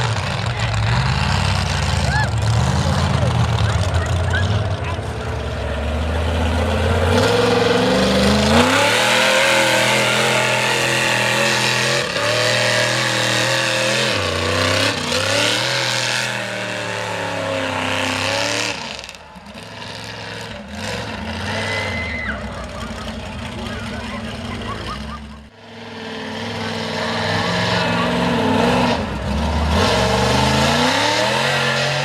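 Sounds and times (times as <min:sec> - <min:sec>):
truck engine revving hard: 0:00.0 - 0:32.0.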